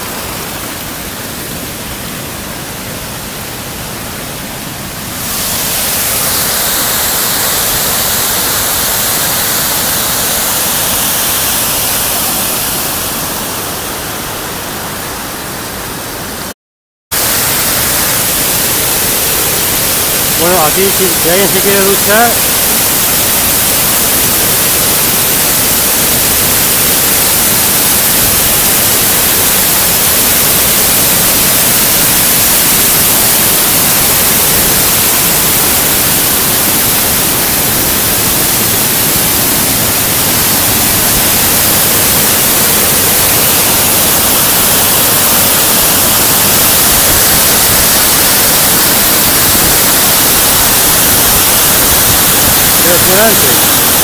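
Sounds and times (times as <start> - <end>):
waterfall rushing: 0.0 - 16.5, 17.1 - 54.0.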